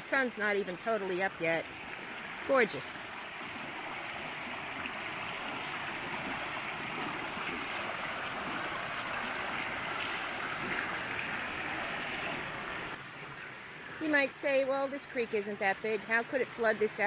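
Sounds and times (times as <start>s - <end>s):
creek water rushing over rocks: 0.0s - 15.6s.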